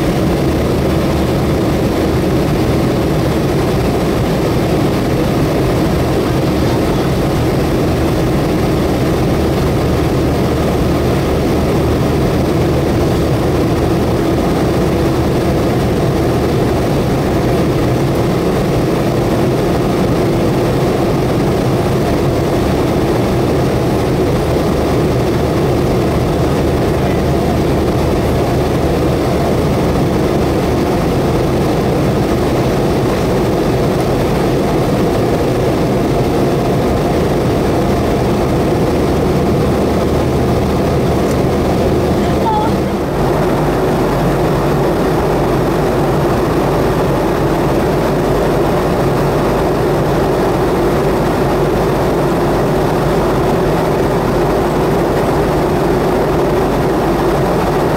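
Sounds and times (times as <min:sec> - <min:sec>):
jet engine and airflow noise in cabin: 0:00.0 - 0:57.9.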